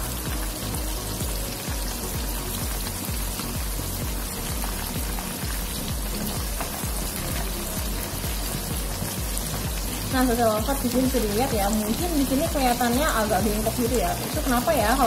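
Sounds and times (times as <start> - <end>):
hot oil bubbling and crackling: 0.0 - 15.0.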